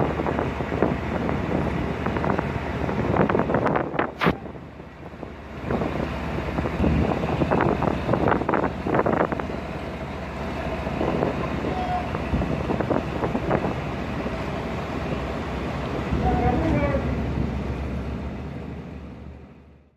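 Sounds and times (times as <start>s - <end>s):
wind buffeting microphone: 0.0s - 19.4s
tugboat engine rumbling: 0.0s - 19.9s.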